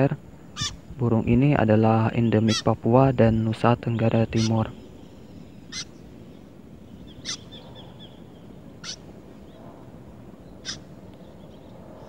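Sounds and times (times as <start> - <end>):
bird calls: 0.0 - 1.0, 2.1 - 12.0
faint bird trill: 0.4 - 0.9, 2.1 - 12.0.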